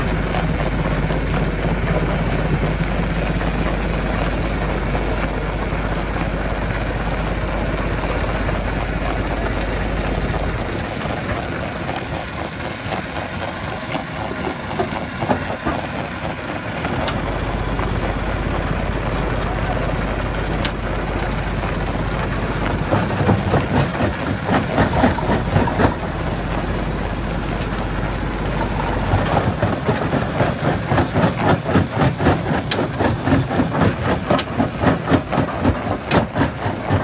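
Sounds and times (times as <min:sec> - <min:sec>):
heavy engine rumbling: 0:00.0 - 0:37.0
knocks and clatter: 0:00.0 - 0:37.0.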